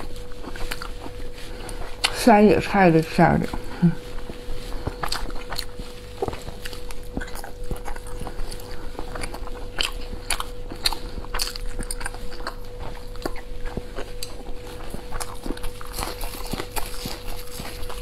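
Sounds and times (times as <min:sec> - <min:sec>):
person biting and chewing: 0:00.0 - 0:02.2, 0:03.5 - 0:18.0
faint steady hum: 0:00.0 - 0:18.0.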